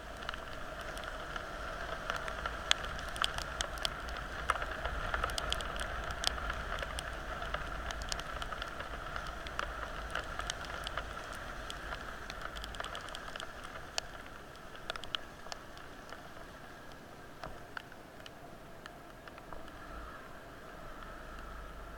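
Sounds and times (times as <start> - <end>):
raindrops striking close: 0.0 - 21.9
steady rain falling: 0.0 - 21.9.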